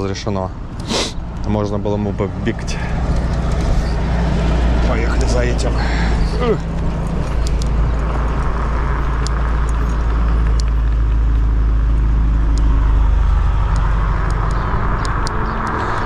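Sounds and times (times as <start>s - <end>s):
scooter road noise: 0.0s - 16.0s
car engine running: 1.4s - 16.0s
wind rumble on microphone: 2.3s - 16.0s.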